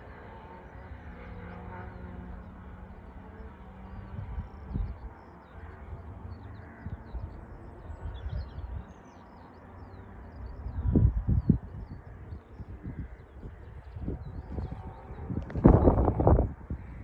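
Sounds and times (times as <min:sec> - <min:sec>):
small birds chirping: 0:01.9 - 0:17.0.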